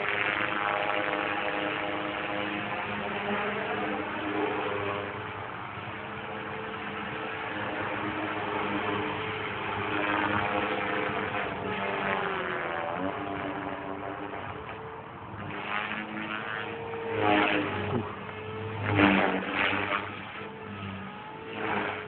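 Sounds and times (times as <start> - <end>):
rc helicopter motor and rotor whine: 0.0 - 22.0
rotor whooshing surges: 1.1 - 22.0.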